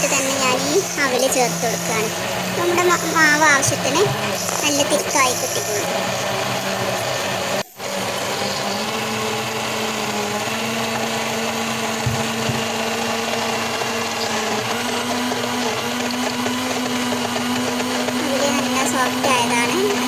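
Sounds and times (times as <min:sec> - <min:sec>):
electric mixer grinder running: 0:00.0 - 0:20.0.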